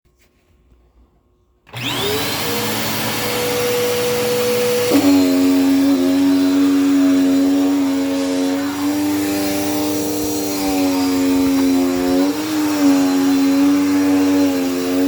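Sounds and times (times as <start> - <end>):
vacuum cleaner motor running: 1.7 - 15.0.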